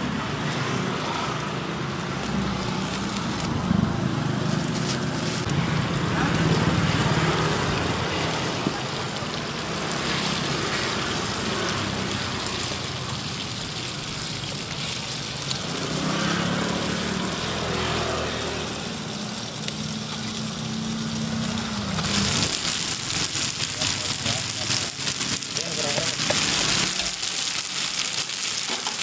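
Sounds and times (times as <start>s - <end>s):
motorbike engines running: 0.0s - 29.0s
oil frying in a wok: 0.0s - 29.0s.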